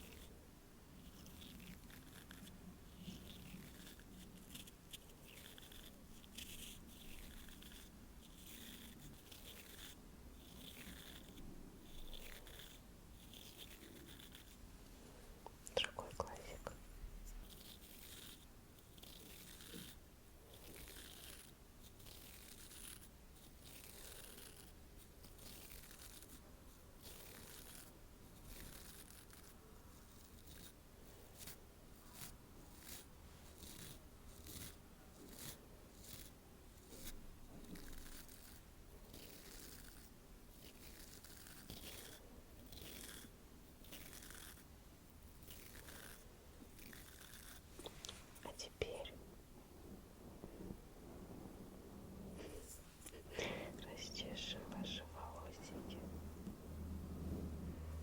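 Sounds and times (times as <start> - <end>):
scratchy brushing strokes: 0.0 - 15.2, 15.9 - 49.1, 49.8 - 58.0.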